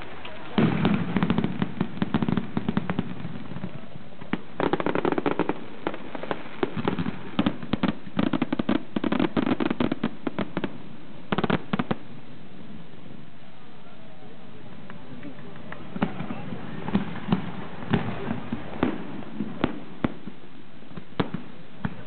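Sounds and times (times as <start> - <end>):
fireworks bangs and crackle: 0.0 - 13.4, 14.4 - 22.0.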